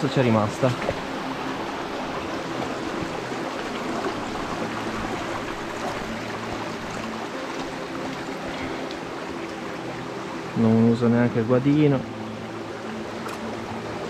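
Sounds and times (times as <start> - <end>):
mountain torrent rushing: 0.0 - 14.0.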